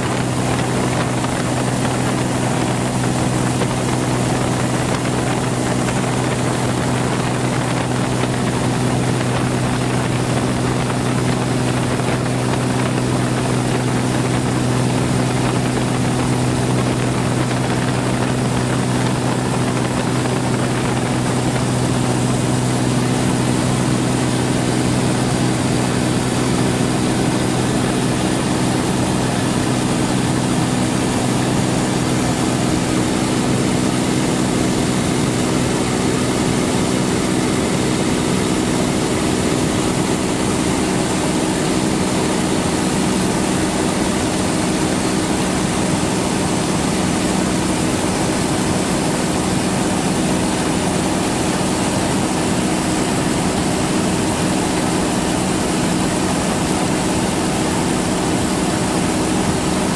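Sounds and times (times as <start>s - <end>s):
steady engine drone: 0.0s - 59.9s.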